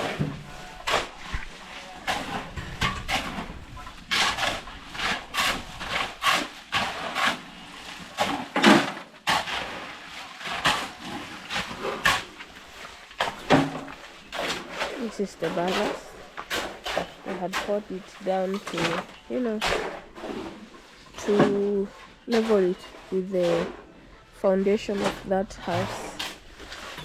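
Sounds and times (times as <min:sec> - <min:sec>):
shovels scraping gravel: 0:00.0 - 0:23.8, 0:24.4 - 0:27.0.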